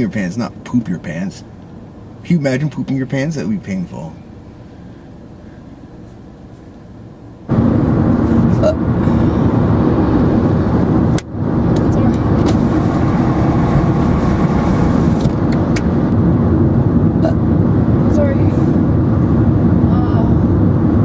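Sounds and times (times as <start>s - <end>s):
car road noise inside cabin: 0.0s - 21.0s.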